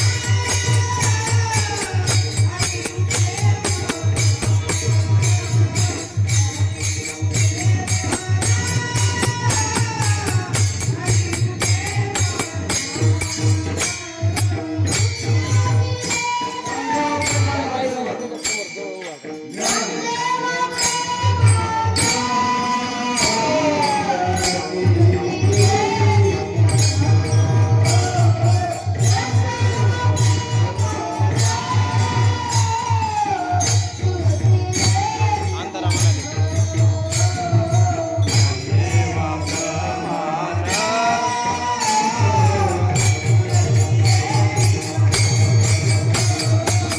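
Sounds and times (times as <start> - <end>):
hand cymbals clashing: 0.0 - 46.9
person singing: 0.0 - 46.9.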